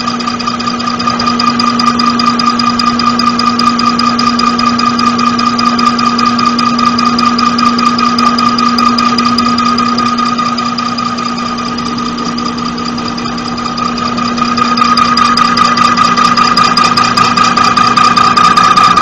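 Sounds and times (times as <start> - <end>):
test bench hum and whine: 0.0 - 19.0.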